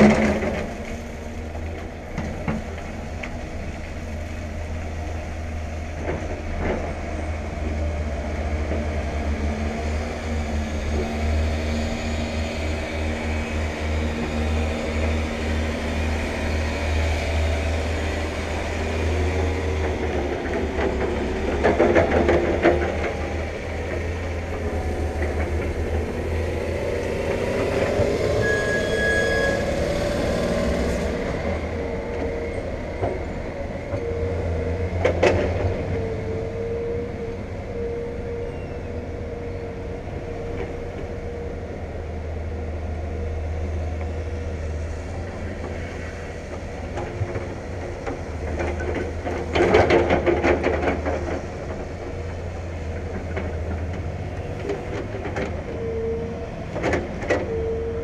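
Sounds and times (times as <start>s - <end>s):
heavy machinery engine rumbling: 0.0s - 58.0s.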